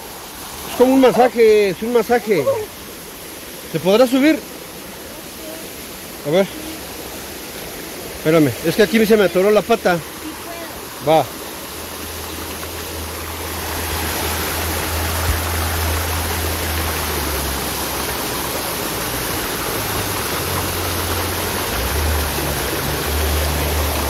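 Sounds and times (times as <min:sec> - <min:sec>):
river water rushing over stones: 0:00.0 - 0:24.0.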